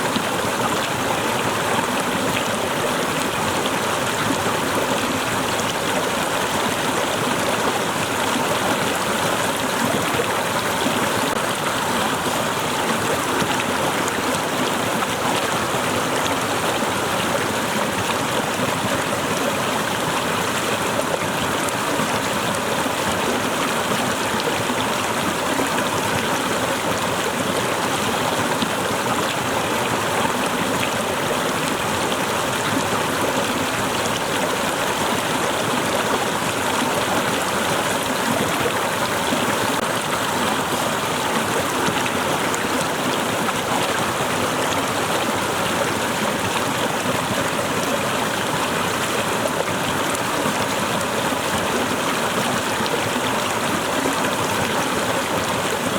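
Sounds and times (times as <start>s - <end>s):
small waterfall splashing: 0.0s - 55.9s.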